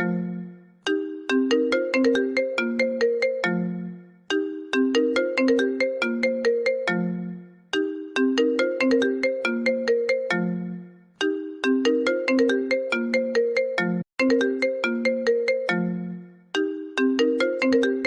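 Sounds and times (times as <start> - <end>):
mobile phone ringtone: 0.0 - 18.0.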